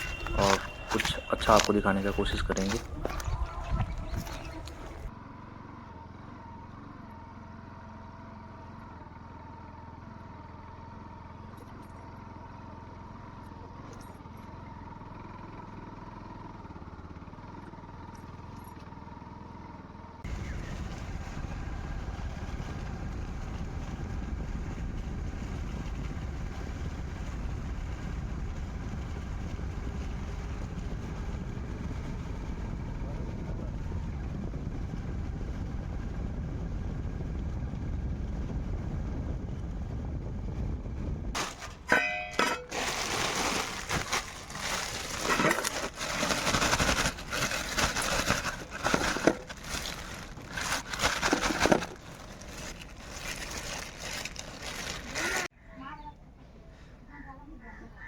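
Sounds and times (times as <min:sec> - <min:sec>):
vehicle engine humming with whine: 0:00.0 - 0:58.0.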